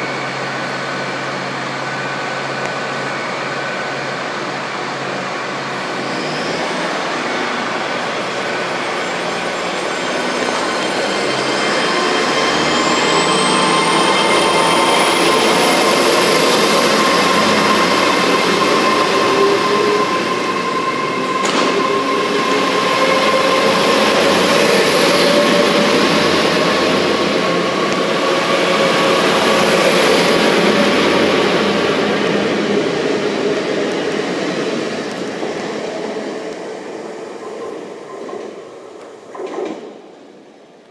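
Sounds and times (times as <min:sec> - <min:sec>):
train passing with rising whine: 0:00.0 - 0:40.9.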